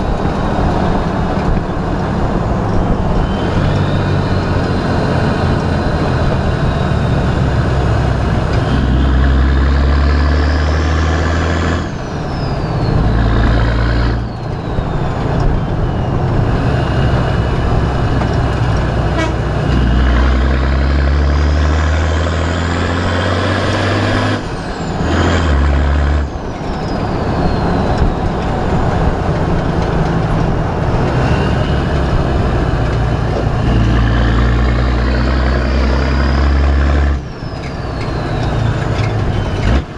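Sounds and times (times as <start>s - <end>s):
diesel engine accelerating: 0.0s - 39.9s.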